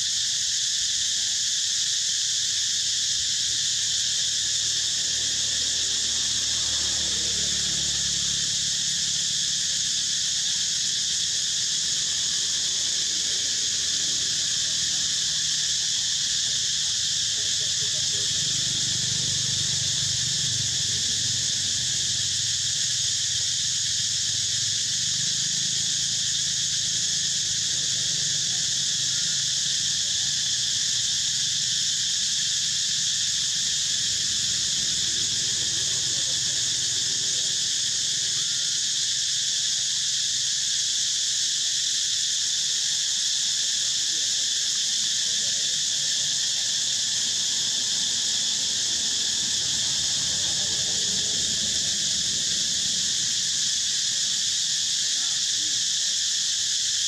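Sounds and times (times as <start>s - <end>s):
insect chorus droning: 0.0s - 57.0s.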